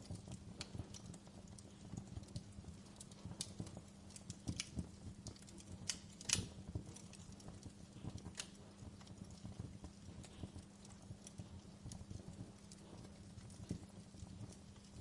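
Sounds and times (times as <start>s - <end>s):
fire pops and snaps: 0.0s - 15.0s
wood fire crackling: 0.0s - 15.0s.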